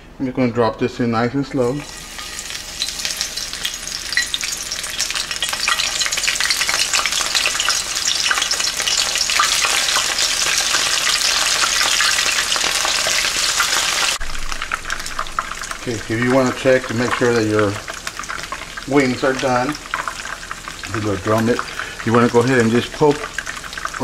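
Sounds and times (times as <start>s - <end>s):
chicken sizzling in oil: 1.7s - 24.0s.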